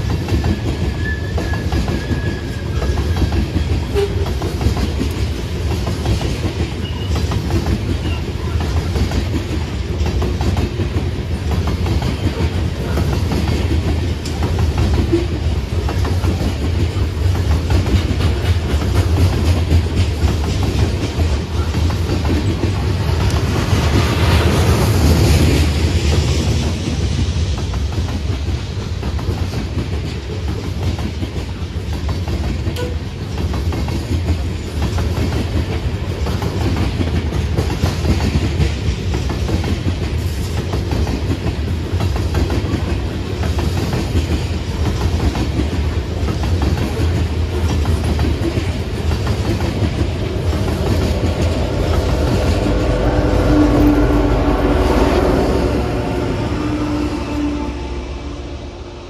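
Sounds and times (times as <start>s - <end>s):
freight train wheels clattering: 0.0s - 57.1s
diesel locomotive engine drone: 0.0s - 59.0s.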